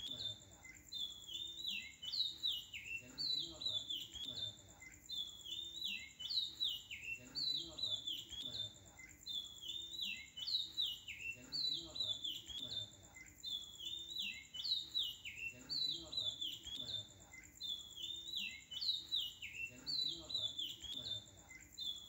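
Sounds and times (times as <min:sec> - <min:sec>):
chirping bird-like calls: 0:00.0 - 0:22.0.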